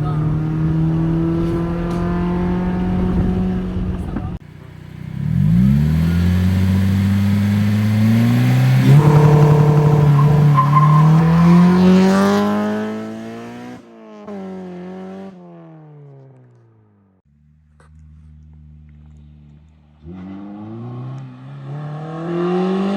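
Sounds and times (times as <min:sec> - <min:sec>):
car engine accelerating hard: 0:00.0 - 0:15.7, 0:17.9 - 0:22.9.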